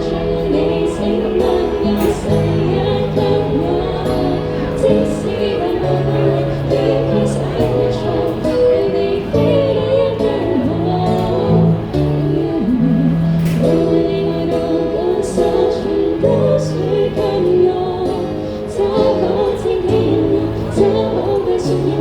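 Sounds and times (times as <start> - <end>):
woman singing: 0.0 - 22.0.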